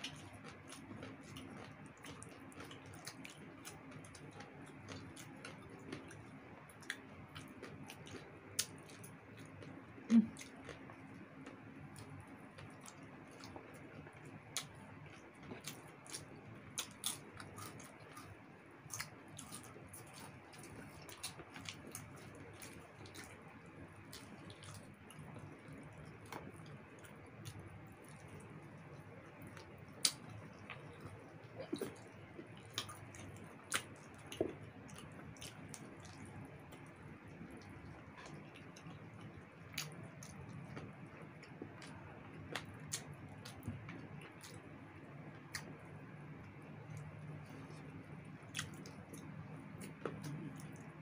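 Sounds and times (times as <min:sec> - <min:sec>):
people chewing: 0:00.0 - 0:44.6, 0:45.3 - 0:51.0.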